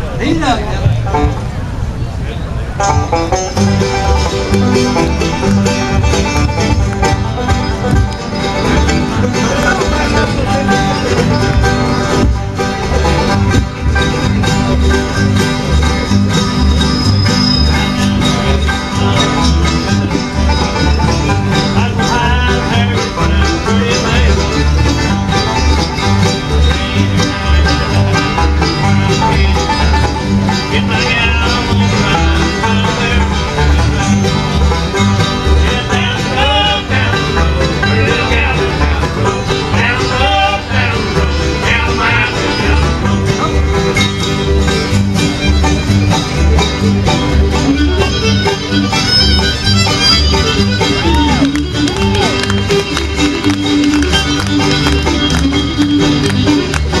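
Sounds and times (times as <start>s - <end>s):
banjo: 0.0s - 1.8s, 2.6s - 57.0s
fiddle: 0.0s - 57.0s
guitar: 0.0s - 57.0s
low bass notes: 0.0s - 57.0s.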